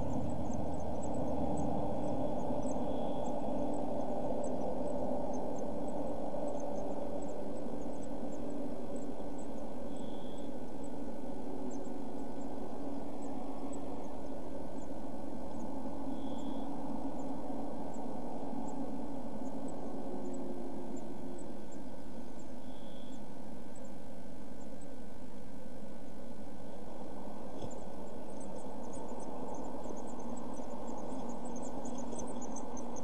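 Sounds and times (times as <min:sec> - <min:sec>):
low hum and hiss: 0:00.0 - 0:33.0.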